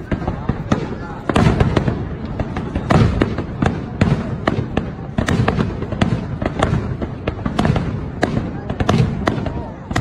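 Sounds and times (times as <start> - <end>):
low rumble of explosions: 0.0 - 10.0.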